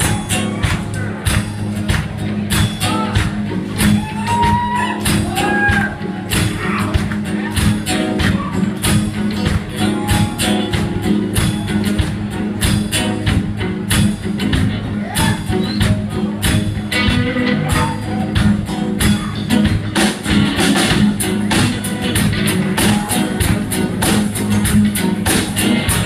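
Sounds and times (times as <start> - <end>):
drum kit beat: 0.0 - 26.0
strummed acoustic guitar: 0.0 - 26.0.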